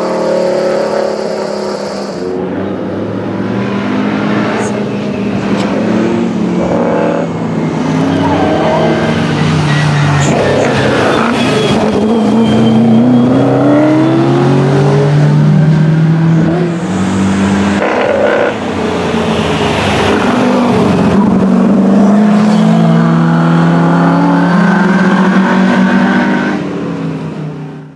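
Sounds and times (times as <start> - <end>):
race car engine revving: 0.0 - 26.6
second racing car: 0.0 - 27.9.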